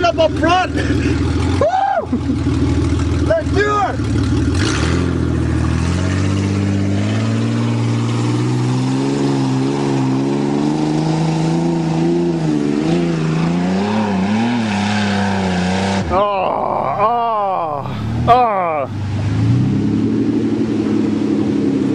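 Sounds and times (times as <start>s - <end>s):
pickup engine revving: 0.0s - 21.9s.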